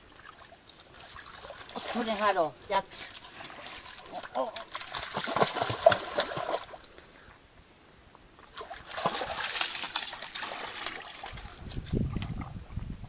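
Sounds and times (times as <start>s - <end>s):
dog wading through water: 0.0s - 6.9s, 8.4s - 12.8s.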